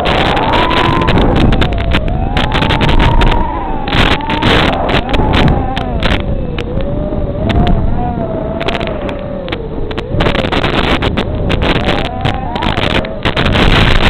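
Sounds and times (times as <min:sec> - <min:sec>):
crackling clicks: 0:00.0 - 0:14.0
drone motors whining: 0:00.0 - 0:14.0
rushing wind noise: 0:00.0 - 0:14.0.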